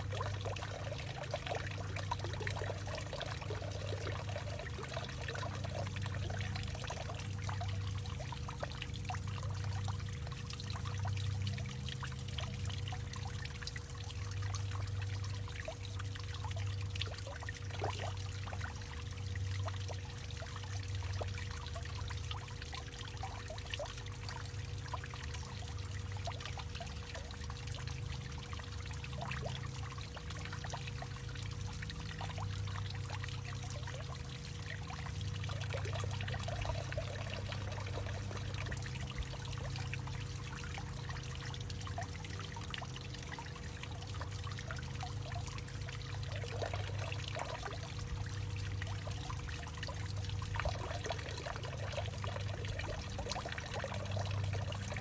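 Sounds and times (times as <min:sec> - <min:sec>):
low uneven rumble: 0:00.0 - 0:21.8, 0:26.8 - 0:55.0
water dripping: 0:00.0 - 0:55.0
water trickling through tree trunk: 0:00.0 - 0:55.0.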